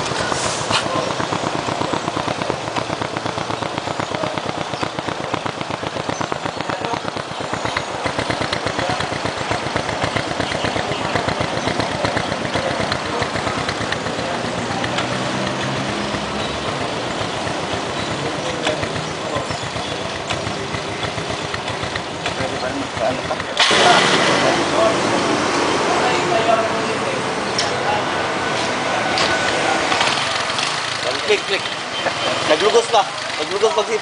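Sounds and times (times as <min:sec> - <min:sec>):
small motorcycle engine idling: 0:00.0 - 0:34.0.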